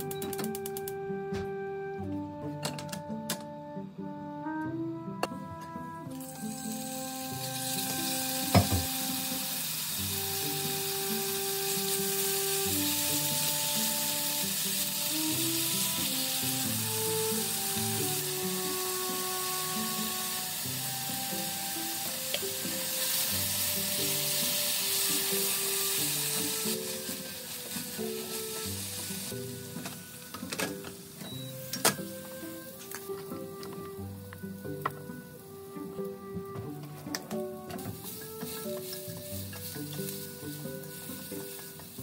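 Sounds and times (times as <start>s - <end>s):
food sizzling in pans: 6.1s - 42.0s.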